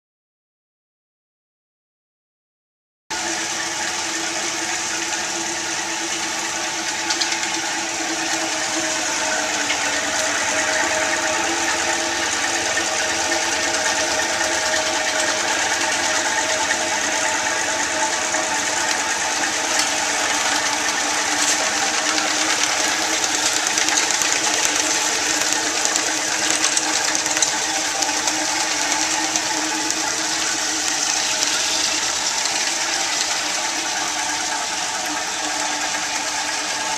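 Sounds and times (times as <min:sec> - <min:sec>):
motor hum: 0:03.2 - 0:36.9.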